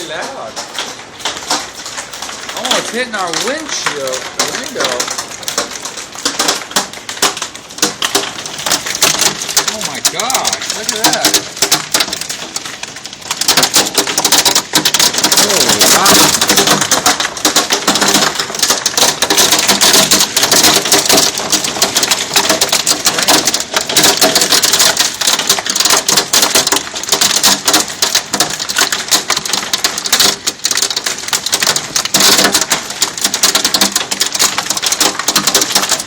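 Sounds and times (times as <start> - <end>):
hailstones clattering: 0.0 - 36.0.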